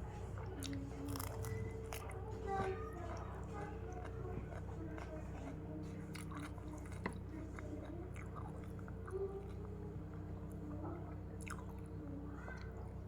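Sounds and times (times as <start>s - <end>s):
steady low hum: 0.0s - 13.0s
person chewing raw vegetables: 0.2s - 11.9s.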